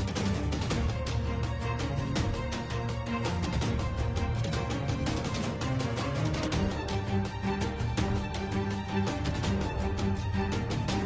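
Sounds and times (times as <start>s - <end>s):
music with percussive beat: 0.0s - 11.0s.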